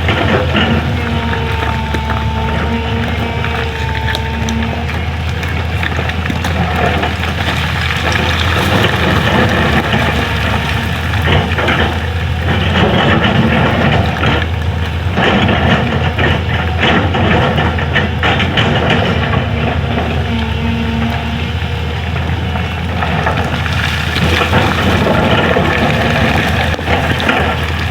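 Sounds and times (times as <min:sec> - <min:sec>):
bucket scraping and crunching road: 0:00.0 - 0:27.9
excavator diesel engine running: 0:00.0 - 0:27.9.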